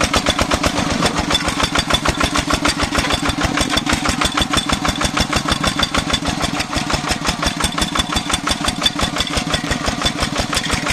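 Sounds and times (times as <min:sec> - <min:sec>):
diesel engine chugging: 0:00.0 - 0:10.9.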